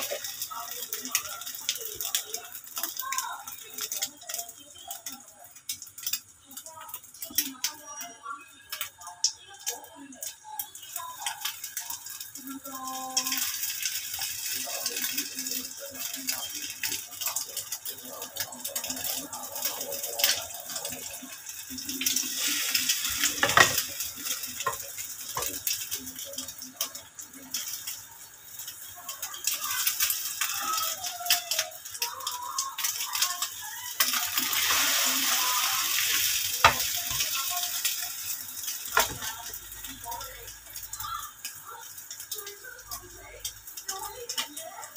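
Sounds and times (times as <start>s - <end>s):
omelette sizzling in oil: 0.0s - 44.9s.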